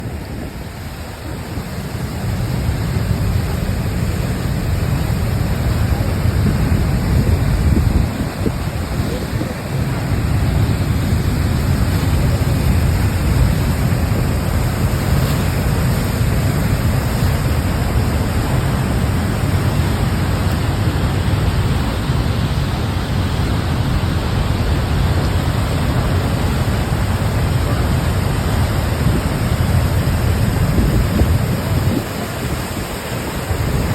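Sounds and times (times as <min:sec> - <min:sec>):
water pouring over a dam: 0:00.0 - 0:33.9.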